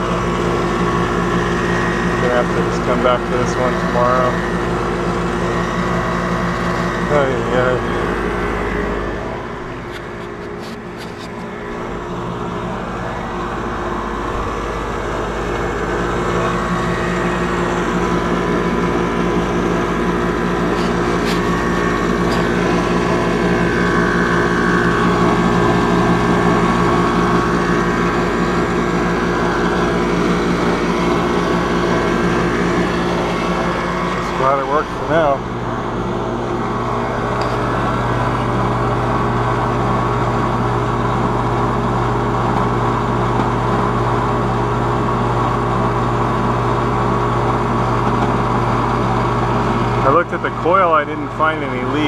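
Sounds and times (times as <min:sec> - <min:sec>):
air conditioner unit humming: 0:00.0 - 0:52.0.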